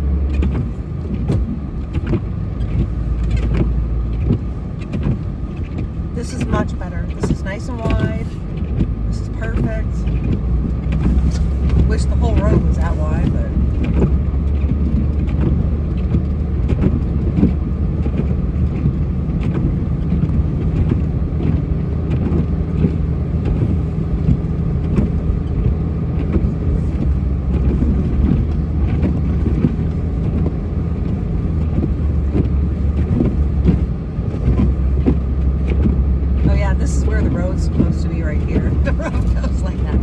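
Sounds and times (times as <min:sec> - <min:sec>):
snowplow engine droning: 0:00.0 - 0:40.0.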